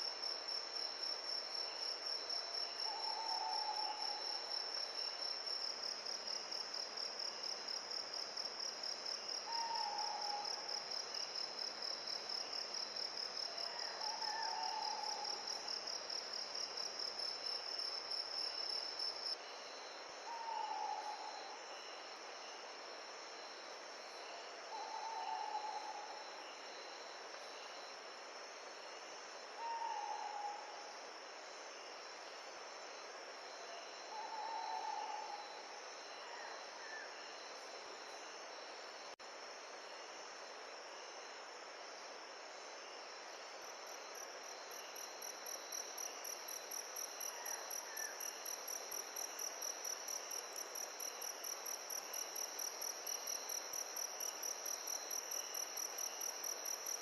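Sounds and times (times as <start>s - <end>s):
insects chorus: 0.0s - 31.2s, 42.0s - 57.0s.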